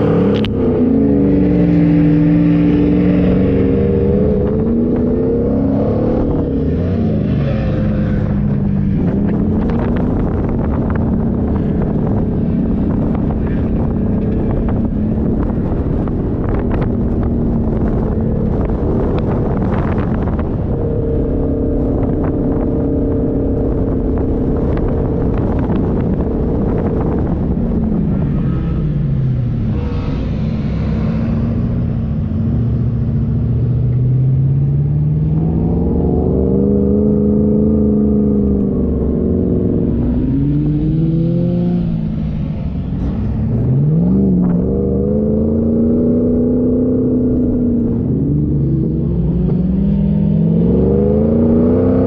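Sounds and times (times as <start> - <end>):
off-road vehicle engine revving: 0.0 - 52.0
steady rumble: 0.0 - 52.0.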